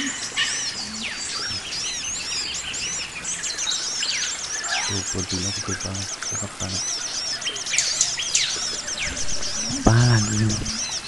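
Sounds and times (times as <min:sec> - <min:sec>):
forest birds singing: 0:00.0 - 0:11.0.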